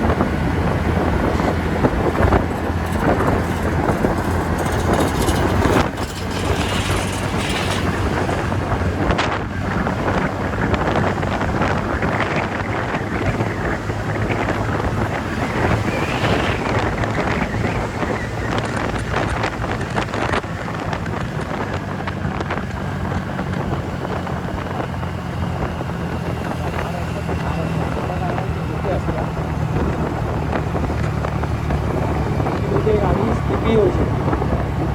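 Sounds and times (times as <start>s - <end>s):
scooter engine drone: 0.0s - 34.9s
wind buffeting crackles: 0.0s - 34.9s
wind rushing over microphone: 0.0s - 34.9s.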